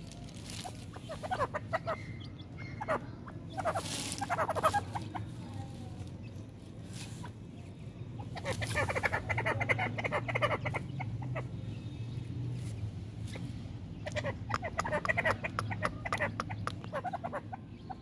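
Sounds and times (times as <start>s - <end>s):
francolin clucking: 0.4s - 11.9s, 12.6s - 18.0s.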